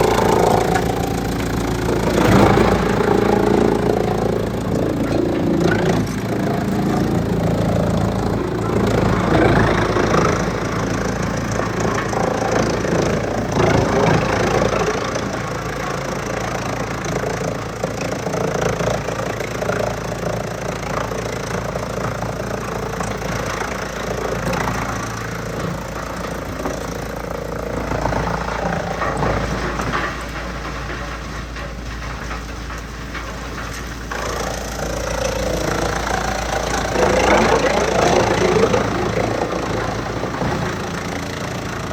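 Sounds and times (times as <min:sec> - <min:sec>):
wood chipper running: 0:00.0 - 0:41.9
wood crackling and splintering: 0:00.0 - 0:41.9.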